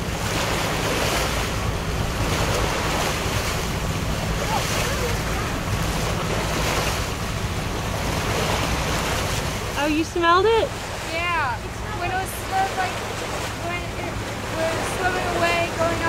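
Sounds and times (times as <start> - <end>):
sea water washing: 0.0 - 16.0.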